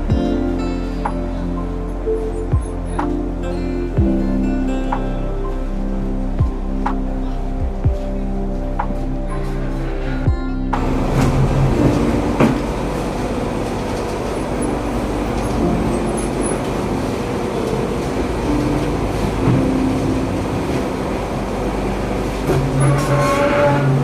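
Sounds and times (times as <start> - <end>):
low hum: 0.0 - 24.0
machine running: 0.0 - 24.0.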